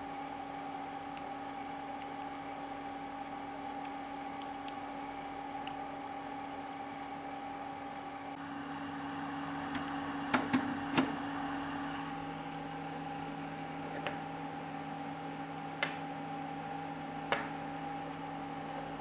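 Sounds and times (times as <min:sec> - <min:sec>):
steady hum with held tones: 0:00.0 - 0:19.0.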